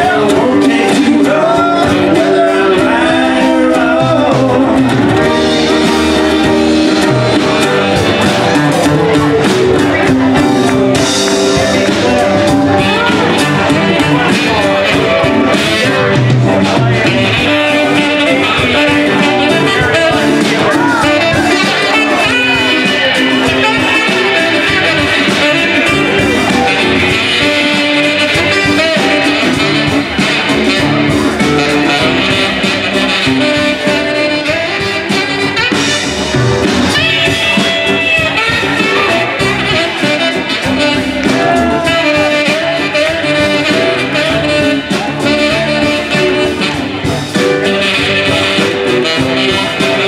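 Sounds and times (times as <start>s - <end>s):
drums: 0.0s - 50.0s
guitars strummed and picked: 0.0s - 50.0s
saxophone: 0.0s - 50.0s.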